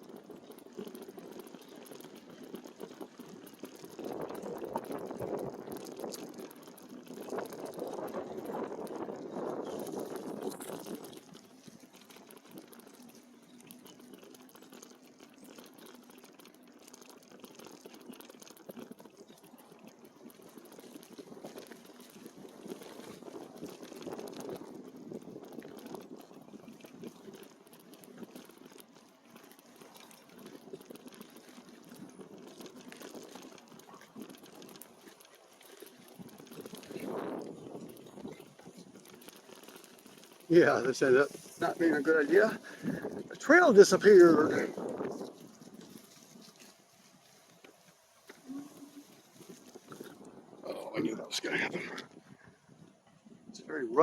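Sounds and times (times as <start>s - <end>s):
bike tyres rolling on dirt trail: 0.0s - 54.0s.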